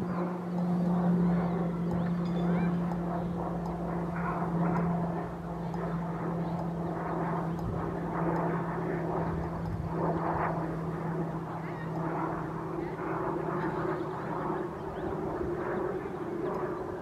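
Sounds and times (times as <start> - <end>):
diffuse rushing noise: 0.0 - 17.0
low mechanical hum: 0.0 - 17.0.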